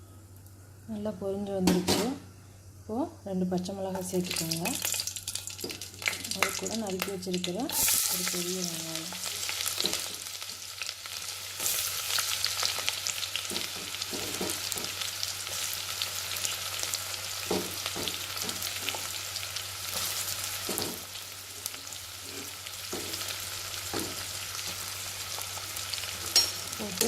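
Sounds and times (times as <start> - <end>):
onion sizzling in oil: 3.3 - 27.0.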